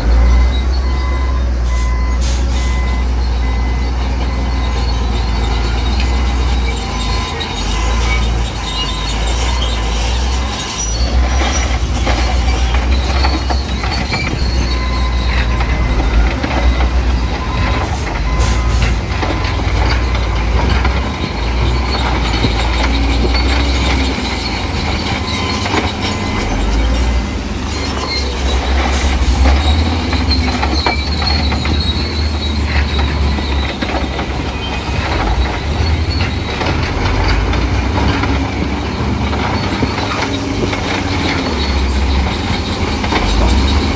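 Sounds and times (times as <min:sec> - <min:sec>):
bulldozer diesel engine rumbling: 0:00.0 - 0:43.9
steel tracks clanking: 0:00.0 - 0:43.9.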